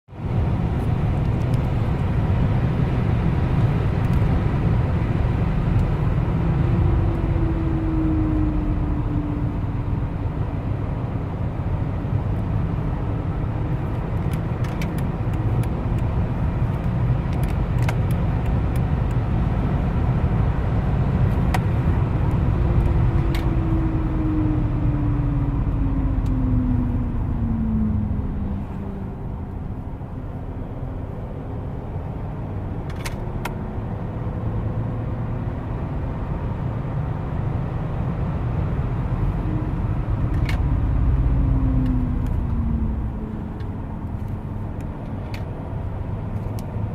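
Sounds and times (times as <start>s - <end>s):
car road noise: 0.1s - 46.9s
brakes howling: 0.3s - 31.2s, 37.0s - 46.9s.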